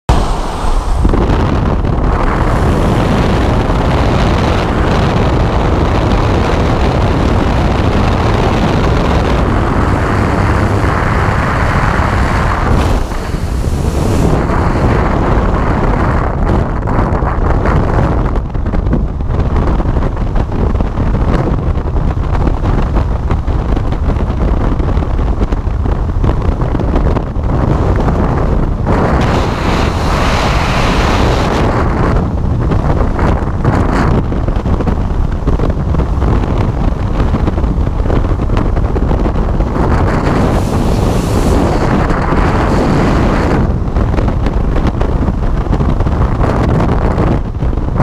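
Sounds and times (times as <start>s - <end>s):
wind blasting over microphone: 0.0s - 48.0s.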